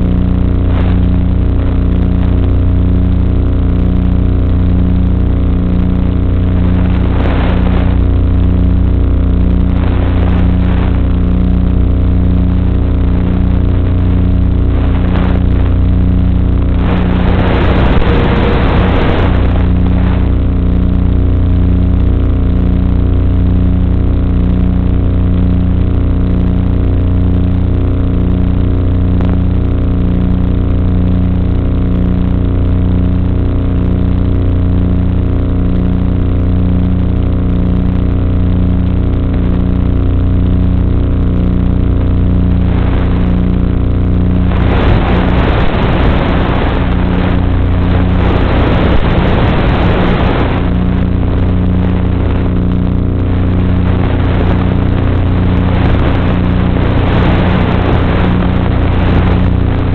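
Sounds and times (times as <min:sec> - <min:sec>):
drone motor hum: 0:00.0 - 0:59.9.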